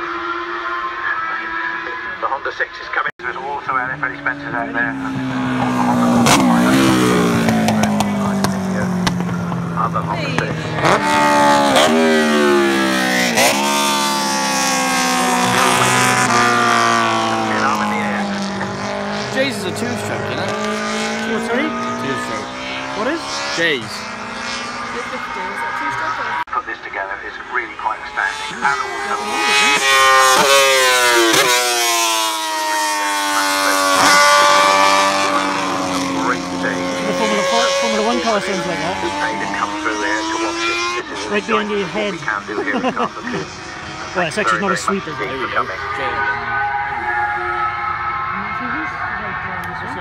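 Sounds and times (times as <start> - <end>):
racing motorcycles at high revs: 0.0 - 2.2, 3.5 - 26.5, 27.4 - 50.0.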